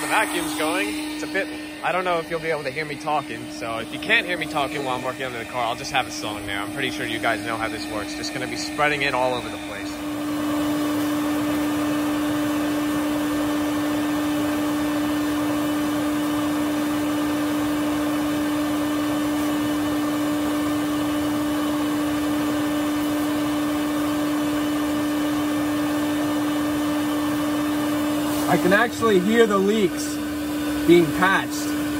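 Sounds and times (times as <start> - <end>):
shop vac running: 0.0 - 31.9.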